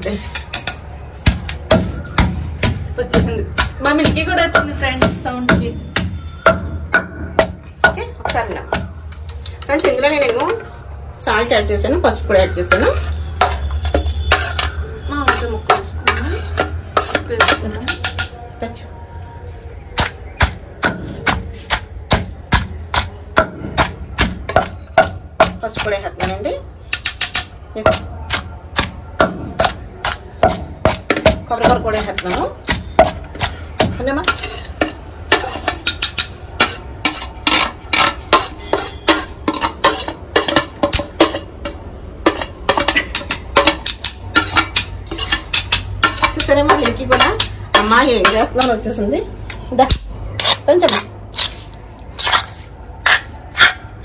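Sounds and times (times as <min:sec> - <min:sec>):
pestle pounding in stone mortar: 0:00.4 - 0:09.2, 0:12.7 - 0:18.4, 0:20.0 - 0:54.0.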